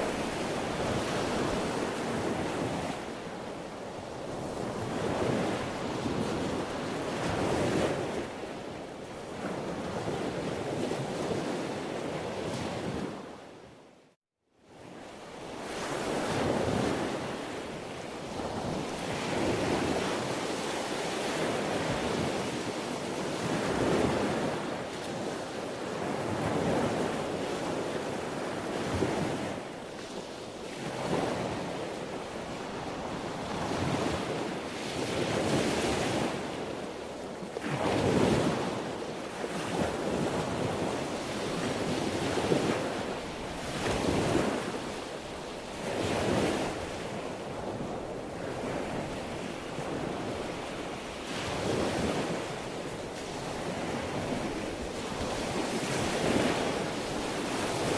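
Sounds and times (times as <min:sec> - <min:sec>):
sea waves breaking on shore: 0:00.0 - 0:13.8, 0:14.7 - 0:57.9.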